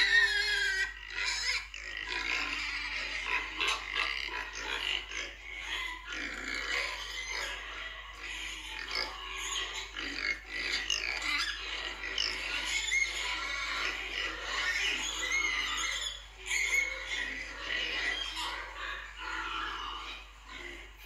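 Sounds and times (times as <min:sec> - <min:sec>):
pigs grunting and squealing: 0:00.0 - 0:21.0.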